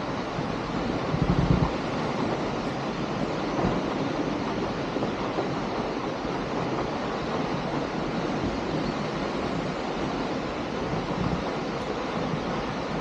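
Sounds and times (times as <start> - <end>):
flowing water rushing: 0.0 - 13.0
wind on microphone: 0.0 - 13.0.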